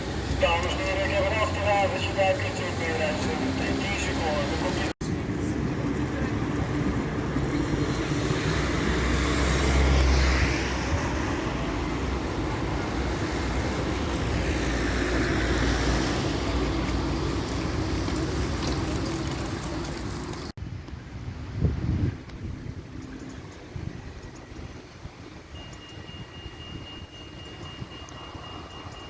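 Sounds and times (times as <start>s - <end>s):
tram passing: 0.0s - 21.6s, 22.4s - 29.0s
street traffic rumble: 0.0s - 29.0s.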